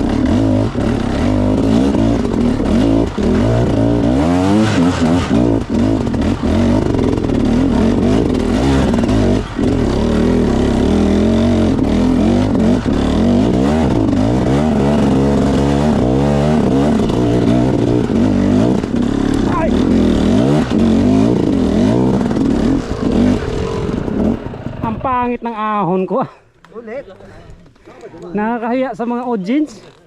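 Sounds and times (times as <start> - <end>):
dirt bike engine revving: 0.0 - 25.4.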